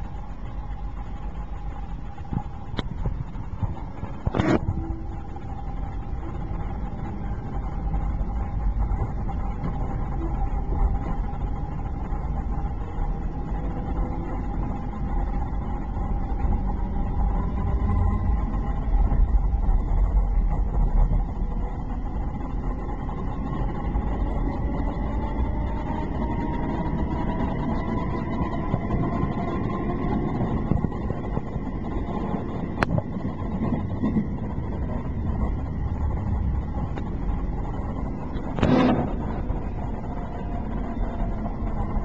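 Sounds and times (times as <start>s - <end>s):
faint rising whine: 0.0s - 42.0s
train wheels rumbling: 0.0s - 42.0s.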